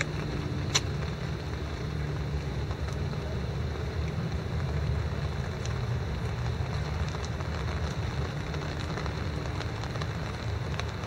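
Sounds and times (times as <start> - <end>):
steady rain: 0.0 - 11.0
wind rumbling on microphone: 0.0 - 11.0.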